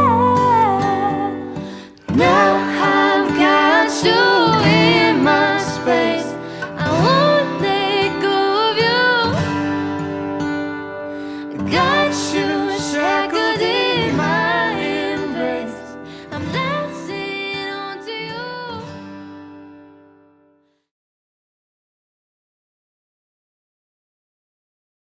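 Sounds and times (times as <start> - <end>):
acoustic guitar strumming: 0.0 - 20.6.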